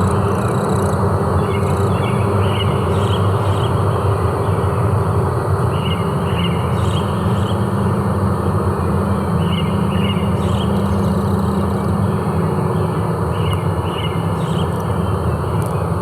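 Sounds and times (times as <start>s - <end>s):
constant low hum: 0.0s - 16.0s
low forest noise: 0.0s - 16.0s.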